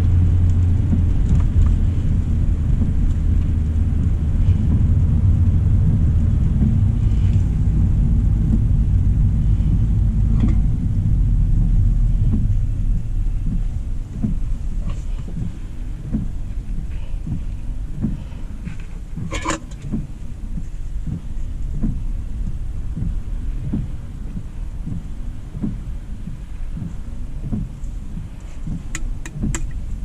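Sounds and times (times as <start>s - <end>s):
car road rumble on wet road: 0.0s - 30.0s.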